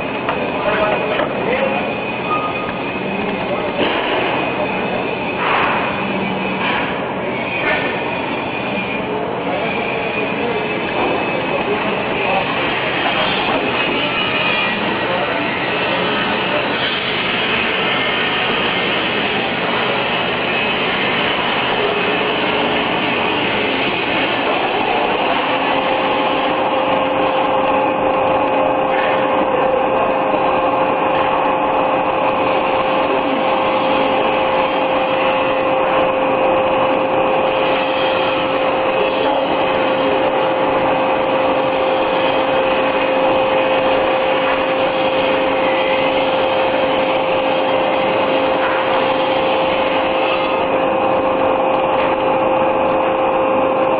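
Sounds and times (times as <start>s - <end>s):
machinery running: 0.0s - 53.9s
steady whine: 0.0s - 53.9s.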